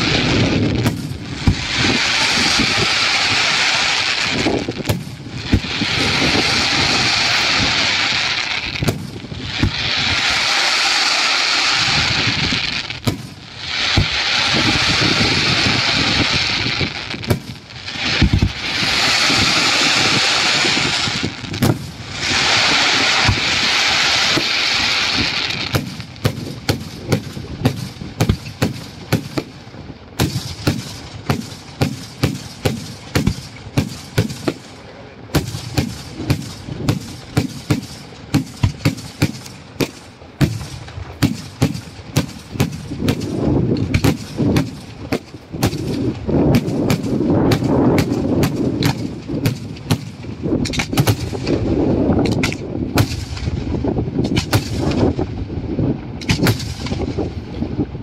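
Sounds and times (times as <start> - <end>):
fireworks bangs: 0.0 - 57.8.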